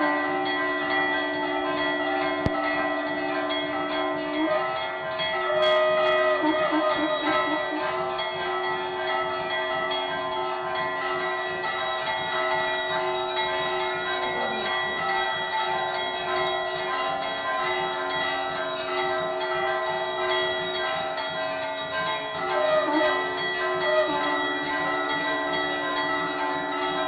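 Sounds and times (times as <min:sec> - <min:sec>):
metal hand bell ringing: 0:00.0 - 0:27.0.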